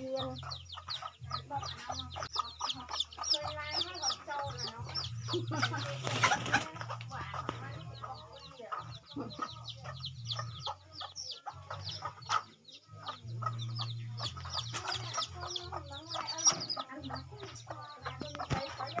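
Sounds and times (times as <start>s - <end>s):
chicks cheeping: 0.0s - 19.0s
hen clucking: 0.0s - 19.0s.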